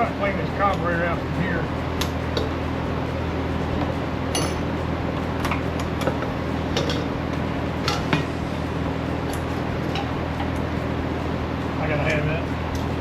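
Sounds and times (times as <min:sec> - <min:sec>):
steady low machine hum: 0:00.0 - 0:13.0.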